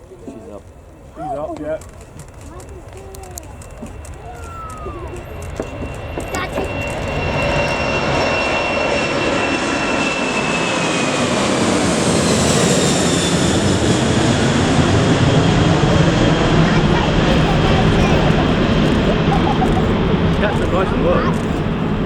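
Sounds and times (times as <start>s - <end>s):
jet engines rumbling: 0.0s - 22.0s
high jet whine: 1.5s - 22.0s.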